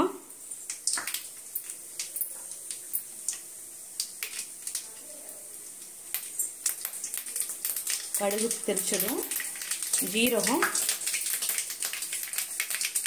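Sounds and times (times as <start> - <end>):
faint oil sizzle: 0.0 - 13.0
seeds popping in hot oil: 0.0 - 13.0.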